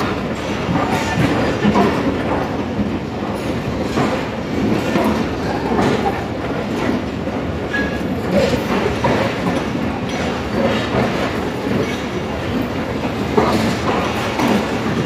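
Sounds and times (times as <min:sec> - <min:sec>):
train coaches rumbling past: 0:00.0 - 0:15.0
wheels clacking over rail joints: 0:00.0 - 0:15.0.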